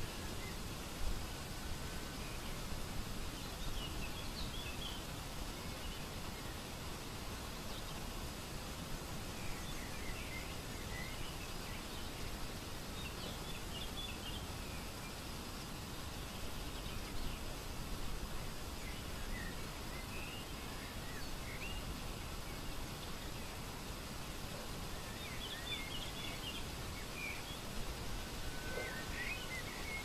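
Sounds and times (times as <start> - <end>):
small birds chirping: 1.6 - 30.0.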